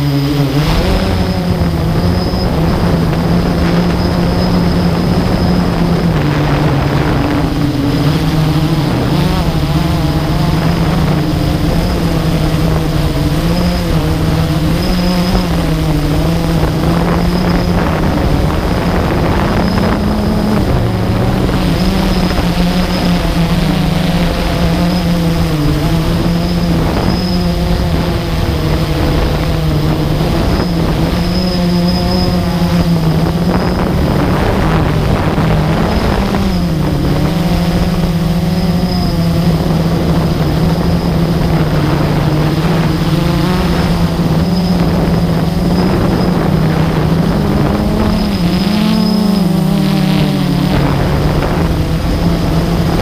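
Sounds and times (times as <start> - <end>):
faint high whine: 0.0 - 53.0
quadcopter propellers buzzing: 0.0 - 53.0.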